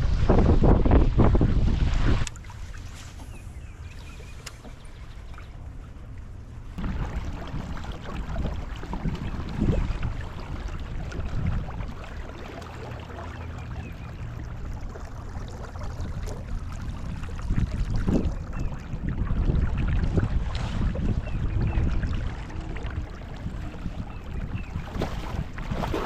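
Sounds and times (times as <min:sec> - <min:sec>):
wind buffeting microphone: 0:00.0 - 0:04.6, 0:06.5 - 0:26.0.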